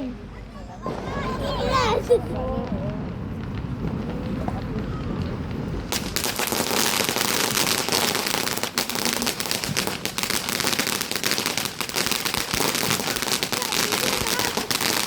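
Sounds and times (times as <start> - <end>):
firework crackling: 0.3 - 15.0.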